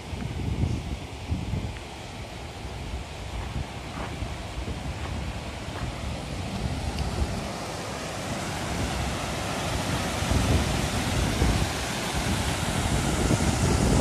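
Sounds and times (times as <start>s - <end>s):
water rushing over a weir: 1.0s - 14.0s.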